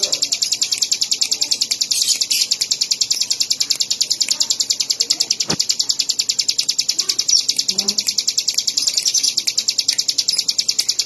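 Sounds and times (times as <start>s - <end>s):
bird rapid high chirping: 0.0s - 11.0s.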